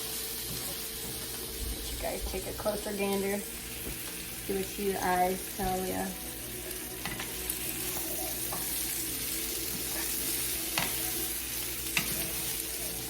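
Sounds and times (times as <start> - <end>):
sausage sizzling in a pan: 0.0 - 13.0.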